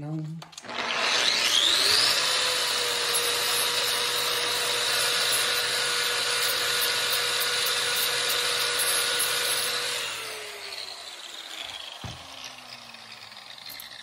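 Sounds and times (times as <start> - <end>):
angle grinder grinding metal: 0.6 - 14.0.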